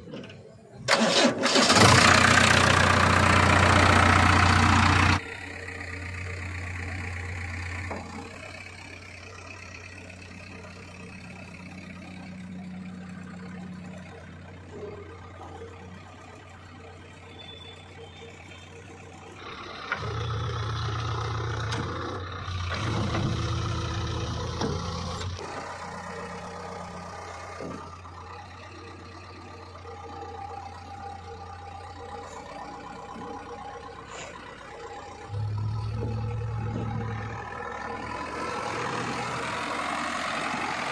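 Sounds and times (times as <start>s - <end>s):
diesel engine revving: 0.7s - 40.9s.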